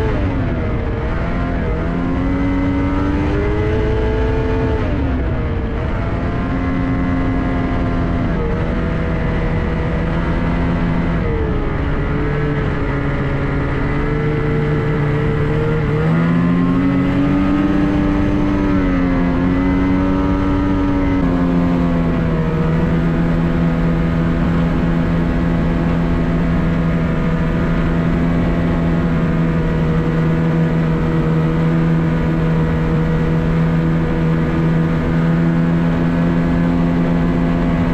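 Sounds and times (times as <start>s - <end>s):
snowmobile engine running: 0.0s - 37.9s.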